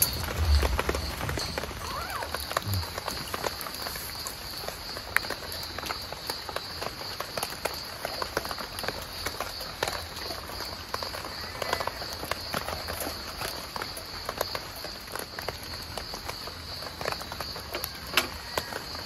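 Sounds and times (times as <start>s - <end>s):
rain pattering on tent fabric: 0.0s - 19.0s.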